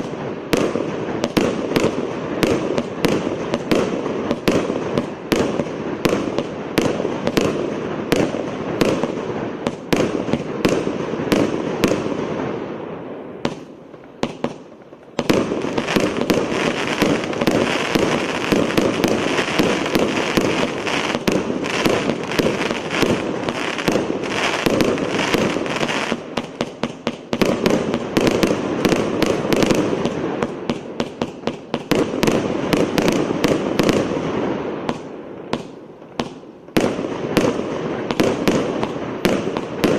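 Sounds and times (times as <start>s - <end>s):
firework crackle: 0.0s - 39.9s.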